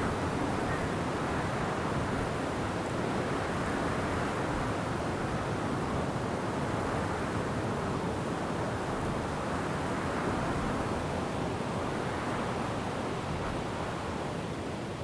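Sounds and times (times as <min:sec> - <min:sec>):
wind through forest trees: 0:00.0 - 0:15.0.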